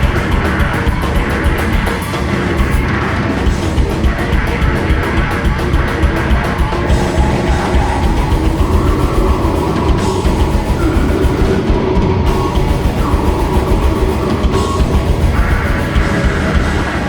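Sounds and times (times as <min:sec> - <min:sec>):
distorted guitars and bass: 0:00.0 - 0:17.0
fast pounding drums: 0:00.0 - 0:17.0.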